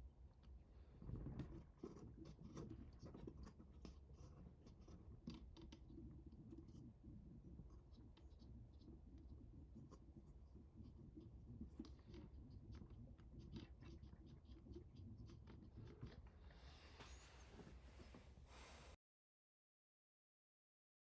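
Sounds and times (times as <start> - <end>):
faint clicks and scratches: 0.2 - 19.0.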